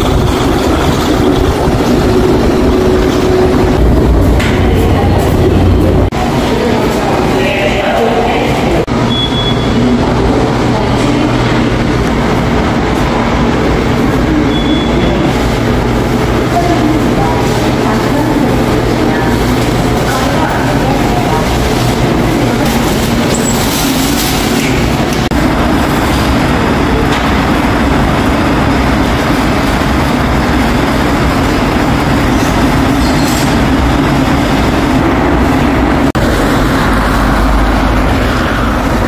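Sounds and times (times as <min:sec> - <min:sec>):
subway train rumbling: 0:00.0 - 0:39.0.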